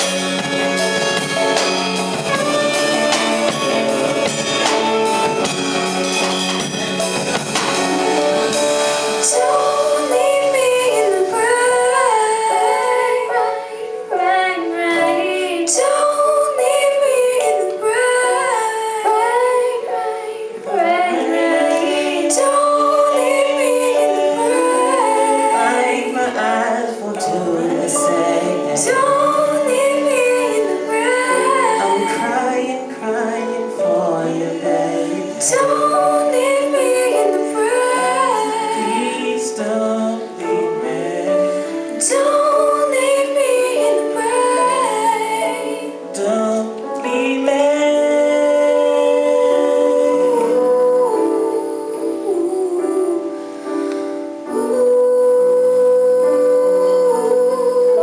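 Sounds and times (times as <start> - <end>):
live band playing pop ballad: 0.0 - 58.0
woman singing: 9.2 - 58.0.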